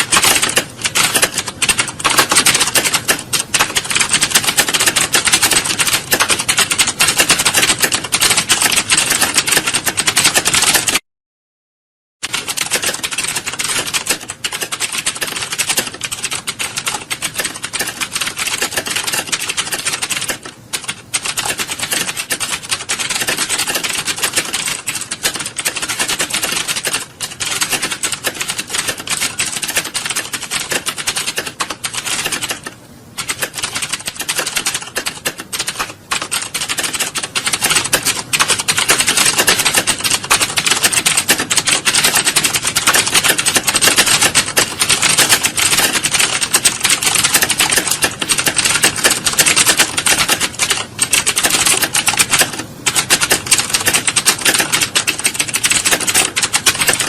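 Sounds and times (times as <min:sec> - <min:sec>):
keyboard typing clatter: 0:00.0 - 0:11.0, 0:12.2 - 0:57.0.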